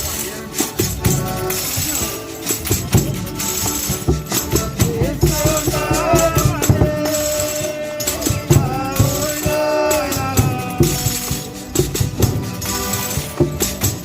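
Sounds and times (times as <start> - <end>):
shaken rattling percussion: 0.0 - 14.0
tambourine jingles: 0.0 - 14.0.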